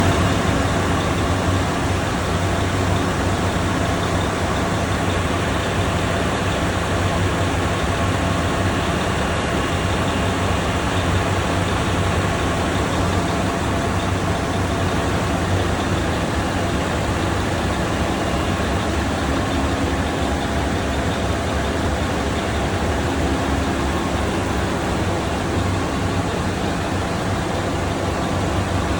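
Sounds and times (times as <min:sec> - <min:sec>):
engine-room machinery running: 0:00.0 - 0:28.9.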